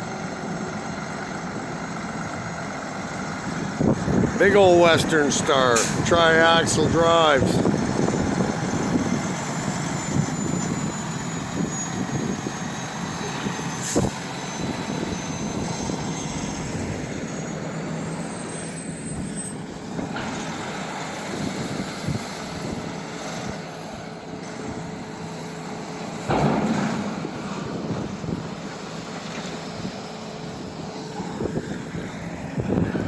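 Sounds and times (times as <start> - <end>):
diesel truck engine rumble: 0.0 - 33.0
road noise: 0.0 - 33.0.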